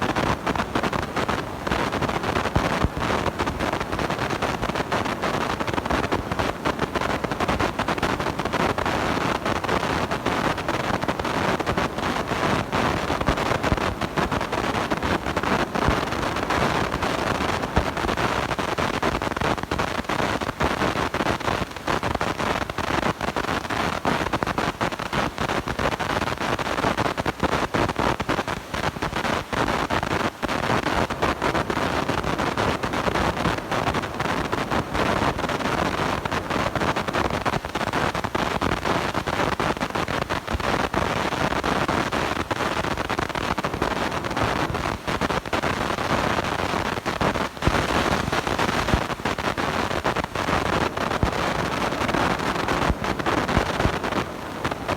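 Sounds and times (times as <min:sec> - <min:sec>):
microphone distortion crackling: 0:00.0 - 0:54.9.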